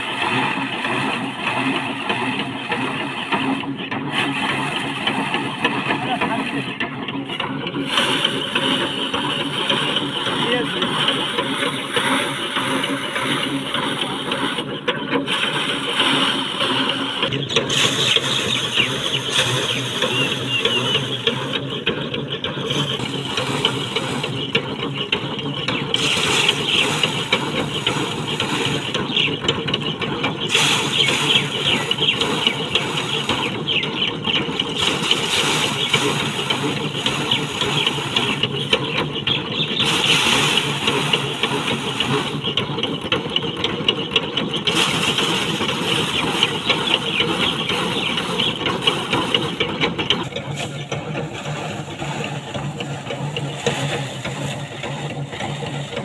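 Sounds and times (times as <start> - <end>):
thresher drum rattling and whirring: 0.0 - 56.0.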